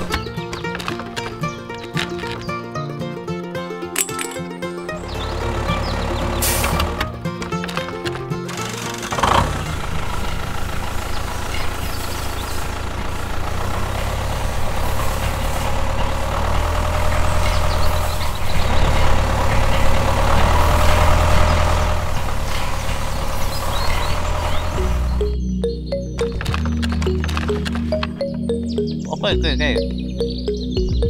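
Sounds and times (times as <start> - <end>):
tractor engine rumbling: 0.0 - 31.0.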